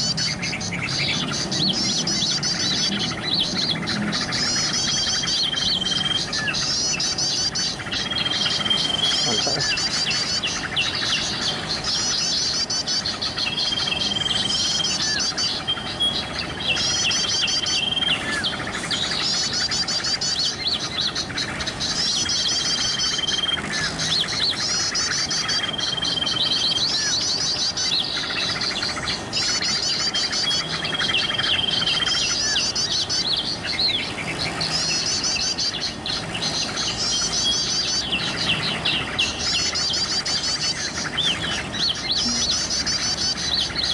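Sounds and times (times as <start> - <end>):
bulbul singing: 0.0 - 43.9.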